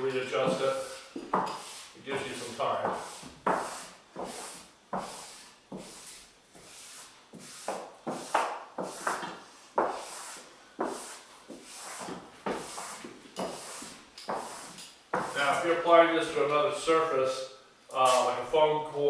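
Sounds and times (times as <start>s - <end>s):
hand rubbing sheet flat: 0.2s - 15.8s.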